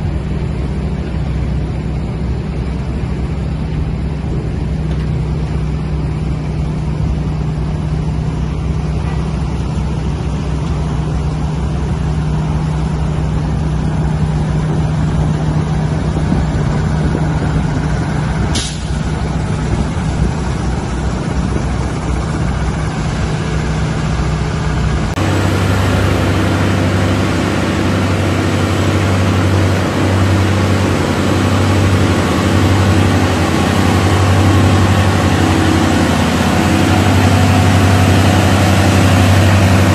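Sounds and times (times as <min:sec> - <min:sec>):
heavy diesel trucks droning: 0:00.0 - 0:39.9.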